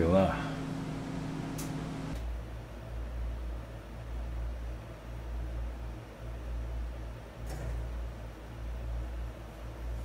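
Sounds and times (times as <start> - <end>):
low rumble of machinery: 0.0 - 10.0.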